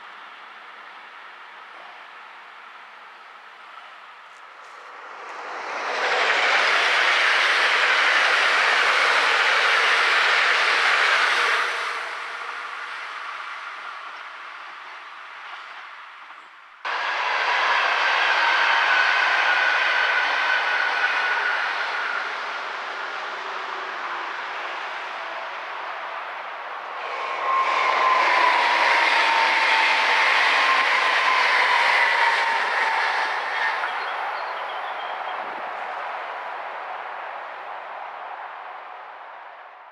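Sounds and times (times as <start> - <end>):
train passing close by: 0.0 - 39.9.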